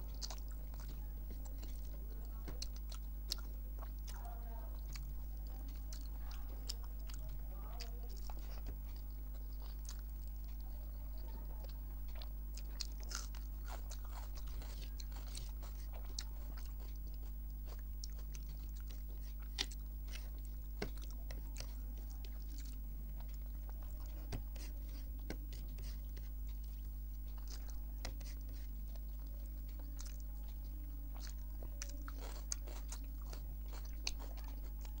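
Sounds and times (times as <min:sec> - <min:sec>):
food crunching: 0:00.0 - 0:35.0
mouth chewing sounds: 0:00.0 - 0:35.0.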